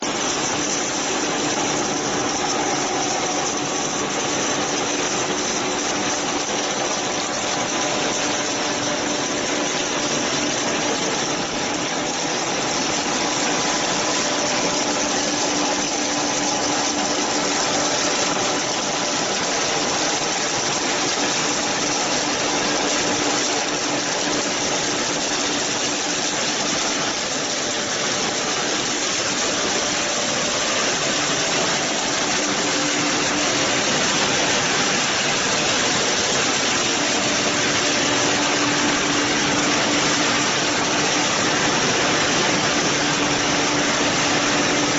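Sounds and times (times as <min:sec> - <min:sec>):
production line machinery running: 0:00.0 - 0:44.9.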